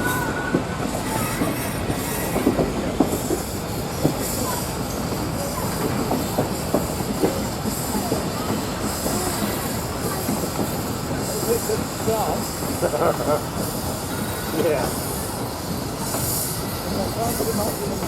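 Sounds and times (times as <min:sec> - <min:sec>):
train rumbling on track: 0:00.0 - 0:18.0
train wheels squealing and clanking: 0:00.0 - 0:18.0.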